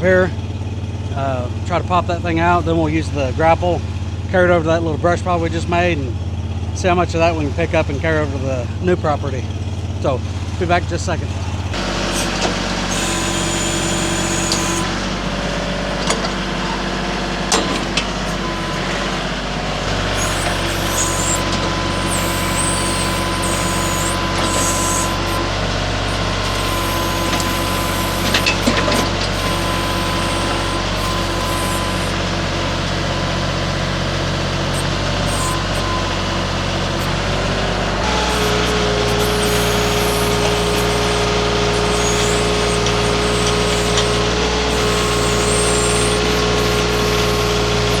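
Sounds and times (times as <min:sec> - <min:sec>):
skid steer engine running: 0:07.6 - 0:48.0.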